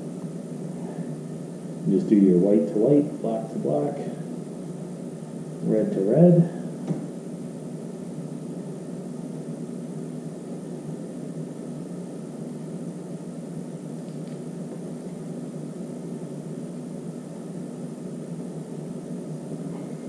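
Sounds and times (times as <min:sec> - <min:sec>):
steady low hum with hiss: 0:00.0 - 0:20.0.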